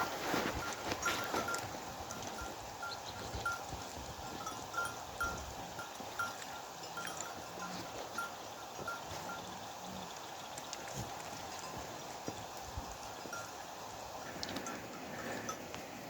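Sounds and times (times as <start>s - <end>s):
small animal bells clinking: 0.3s - 15.8s.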